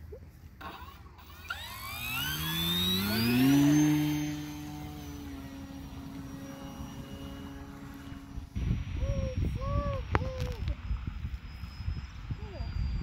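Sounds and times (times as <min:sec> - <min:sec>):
model plane motor whine: 0:00.6 - 0:13.0.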